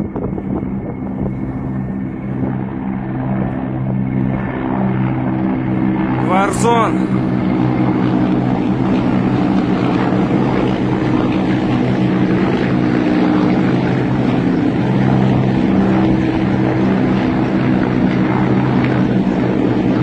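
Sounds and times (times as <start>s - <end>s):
helicopters flying by: 0.0s - 20.0s.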